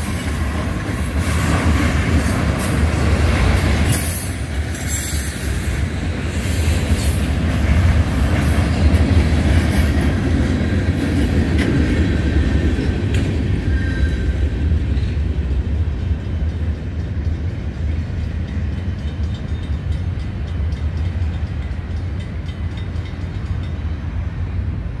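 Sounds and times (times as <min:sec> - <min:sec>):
freight train rumbling: 0:00.0 - 0:25.0.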